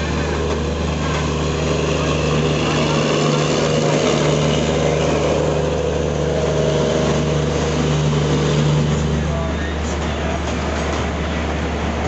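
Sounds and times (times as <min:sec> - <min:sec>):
locomotive diesel engine running: 0:00.0 - 0:12.0.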